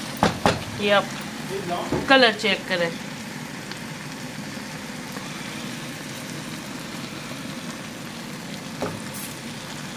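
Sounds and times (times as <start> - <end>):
curry bubbling and sizzling: 0.0 - 9.9.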